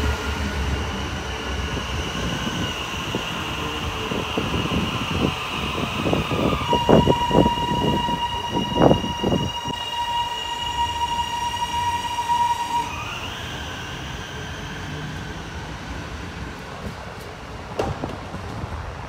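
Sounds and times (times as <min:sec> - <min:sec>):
electric train whine: 0:00.0 - 0:19.0.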